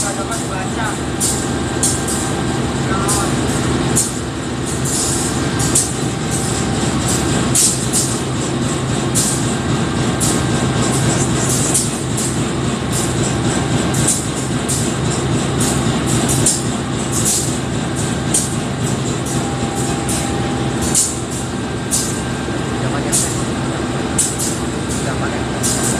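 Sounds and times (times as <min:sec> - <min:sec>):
diesel locomotive idling: 0:00.0 - 0:25.9.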